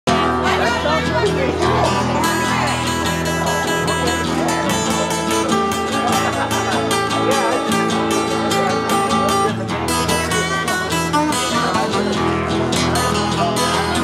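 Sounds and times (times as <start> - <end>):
acoustic guitars strummed: 0.1 - 14.0.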